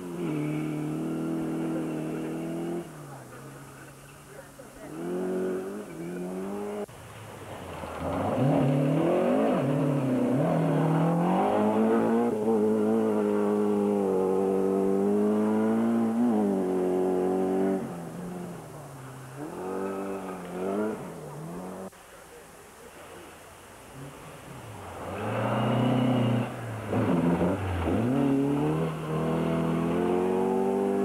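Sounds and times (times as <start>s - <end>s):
rally car engine accelerating: 0.0s - 6.9s, 7.5s - 21.9s, 23.9s - 31.0s.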